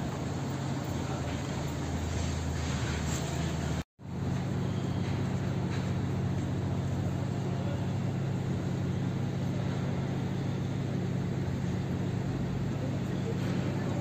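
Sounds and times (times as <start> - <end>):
hiss of street noise: 0.0 - 14.0
hum of vehicle engines: 0.0 - 14.0.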